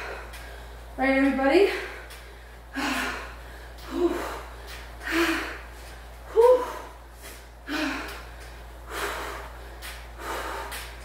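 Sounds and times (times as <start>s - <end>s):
woman breathing heavily: 0.0s - 11.0s.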